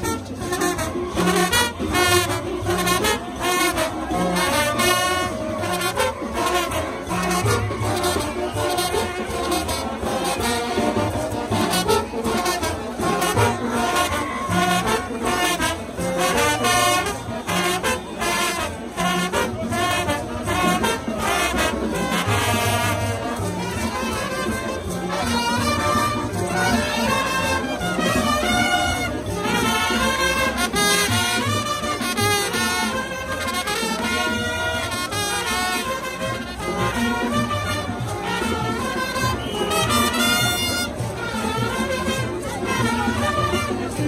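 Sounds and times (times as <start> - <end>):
brass band playing: 0.0 - 44.0.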